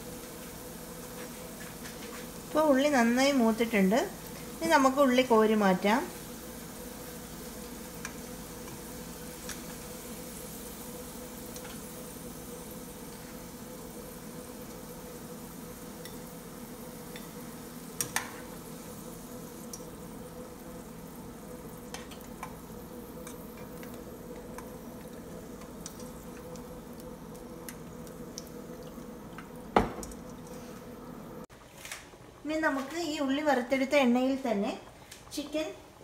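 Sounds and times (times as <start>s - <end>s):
hot oil sizzling in a pan: 0.0s - 30.2s
steady hum: 0.0s - 31.6s.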